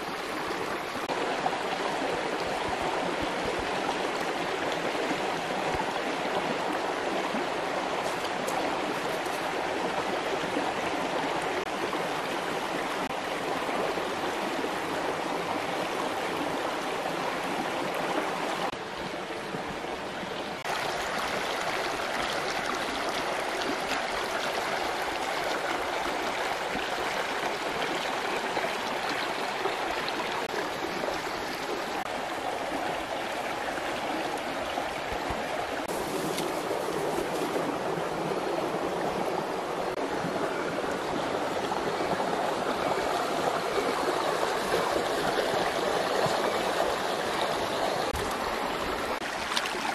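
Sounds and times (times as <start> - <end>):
stream running over rocks: 0.0 - 49.9.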